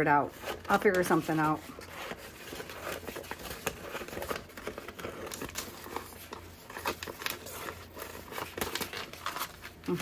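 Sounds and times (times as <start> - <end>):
paper crinkling: 0.3 - 10.0.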